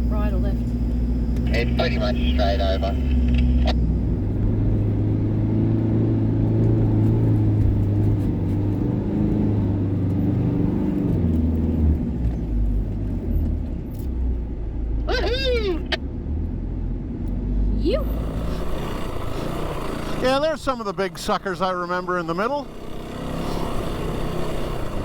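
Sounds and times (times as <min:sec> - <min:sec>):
vehicle engine running under load: 0:00.0 - 0:25.0.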